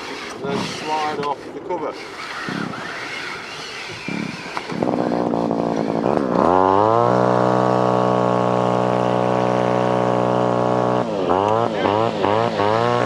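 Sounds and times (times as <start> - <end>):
small engine starting and running: 0.0 - 13.0.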